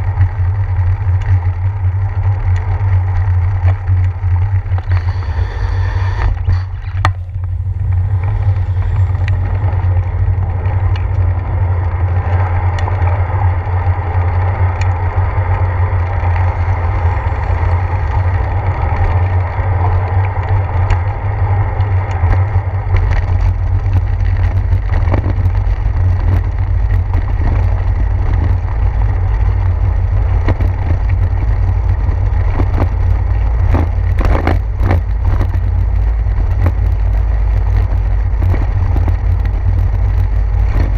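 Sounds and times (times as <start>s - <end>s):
wind rumble on microphone: 0.0s - 40.9s
bike rattling over brick pavers: 6.3s - 40.9s.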